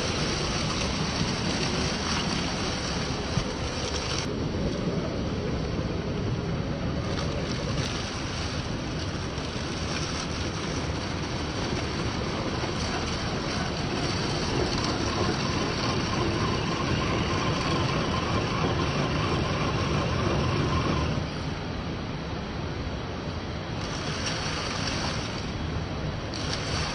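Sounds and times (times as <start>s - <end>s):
faint steady whine: 0.0s - 26.9s.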